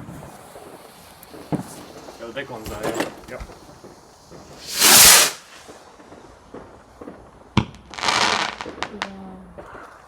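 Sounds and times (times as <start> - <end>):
firework bang: 0.0 - 9.0
firework rushing hiss: 0.0 - 9.0.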